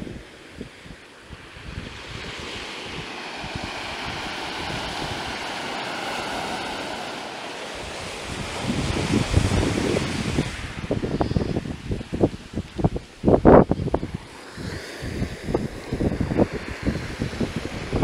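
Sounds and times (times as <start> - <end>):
surf washing over sand: 0.0 - 18.0
wind buffeting microphone: 0.0 - 18.0.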